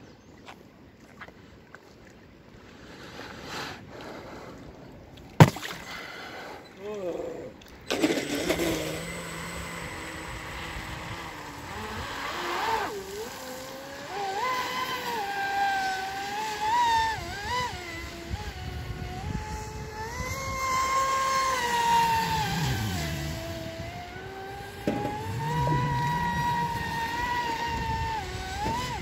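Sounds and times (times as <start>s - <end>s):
speedboat motor whining: 5.4s - 29.0s.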